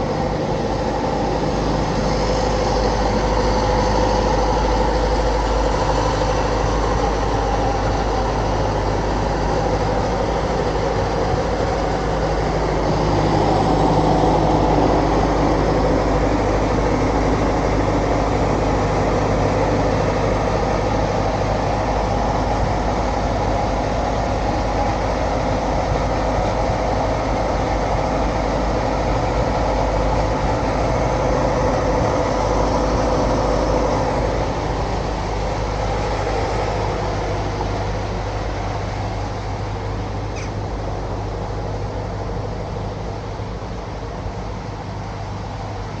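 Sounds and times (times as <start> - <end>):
large vehicle droning hum: 0.0 - 46.0.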